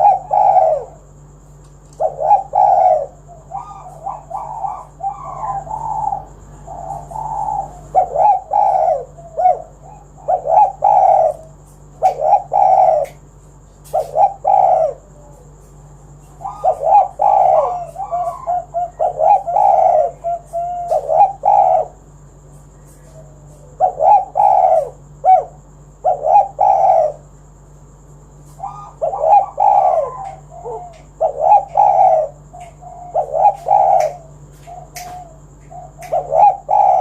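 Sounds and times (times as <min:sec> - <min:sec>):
dove cooing: 0:00.0 - 0:27.4, 0:28.5 - 0:37.0.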